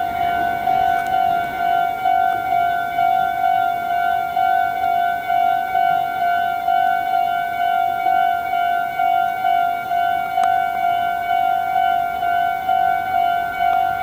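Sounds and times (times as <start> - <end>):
level crossing warning bell: 0.0 - 14.0.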